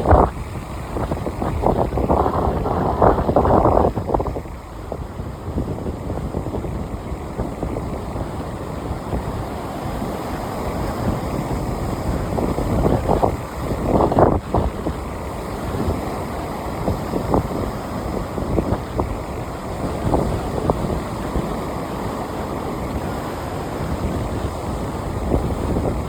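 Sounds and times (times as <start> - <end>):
sea waves breaking on shore: 0.0 - 26.0
wind buffeting microphone: 0.0 - 26.0.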